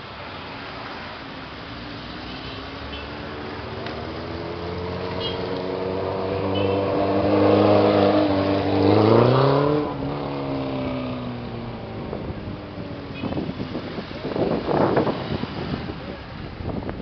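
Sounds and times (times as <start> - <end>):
motorcycles riding past: 1.7 - 16.3.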